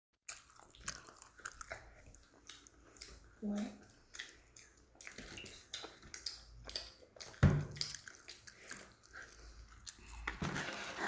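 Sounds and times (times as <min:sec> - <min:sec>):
children chewing: 0:00.2 - 0:11.0.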